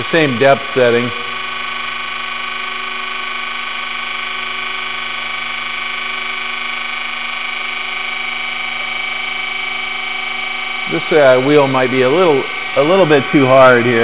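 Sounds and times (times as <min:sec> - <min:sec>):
grinding hiss: 0:00.0 - 0:14.0
grinding wheel whine: 0:00.0 - 0:14.0.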